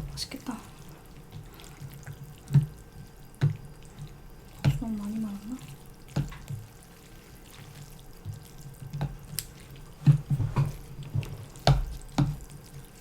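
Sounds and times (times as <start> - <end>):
chewing: 0.6 - 13.0.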